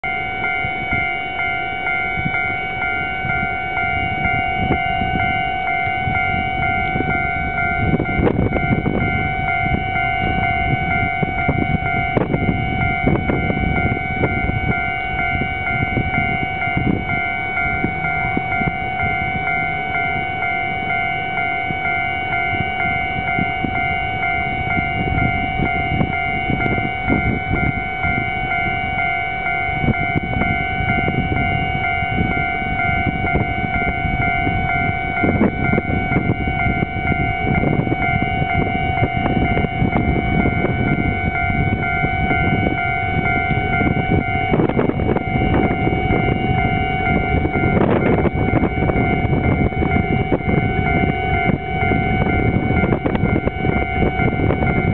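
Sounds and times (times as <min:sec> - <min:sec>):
rough rumbling noise: 0:00.0 - 0:54.9
steady tone with overtones: 0:00.0 - 0:54.9.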